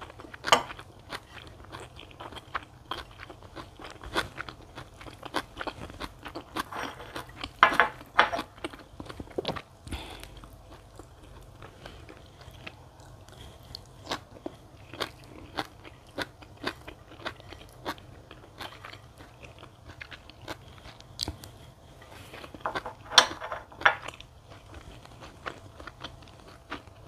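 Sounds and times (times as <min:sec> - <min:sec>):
person chewing with wet smacks: 0:00.0 - 0:22.8, 0:24.0 - 0:27.0.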